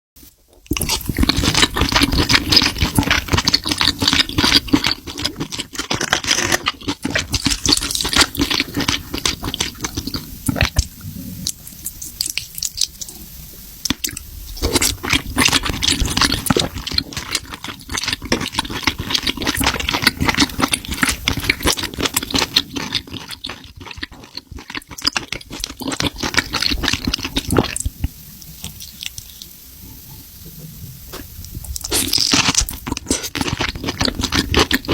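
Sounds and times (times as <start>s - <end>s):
chewing crackling clicks: 0.5s - 13.2s, 13.8s - 29.6s, 31.1s - 34.9s.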